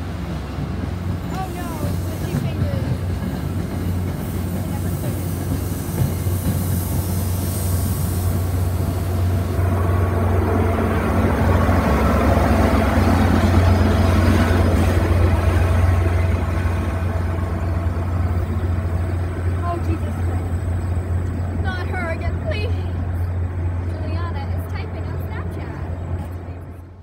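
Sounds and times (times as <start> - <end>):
locomotive engine drone: 0.0 - 27.0
train wheels rumbling: 0.0 - 27.0.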